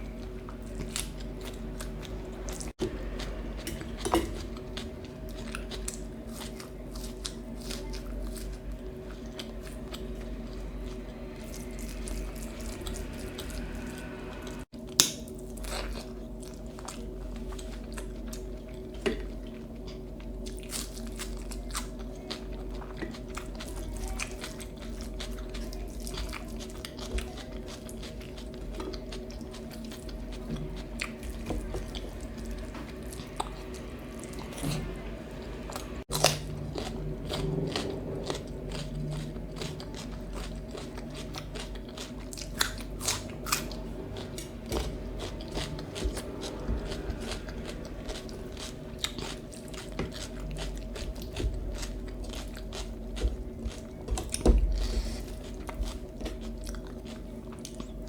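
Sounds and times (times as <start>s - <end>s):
person chewing crunchy food: 0.0s - 58.0s
steady low hum: 0.0s - 58.0s.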